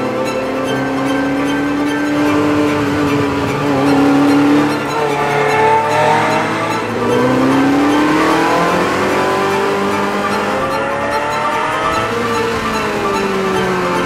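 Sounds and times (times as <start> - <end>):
car engine revving hard: 0.0 - 14.0.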